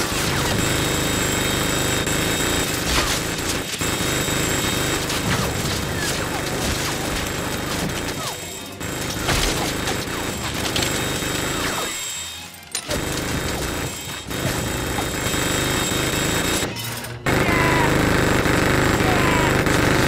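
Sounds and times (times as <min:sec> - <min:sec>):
minigun firing: 0:00.0 - 0:20.0.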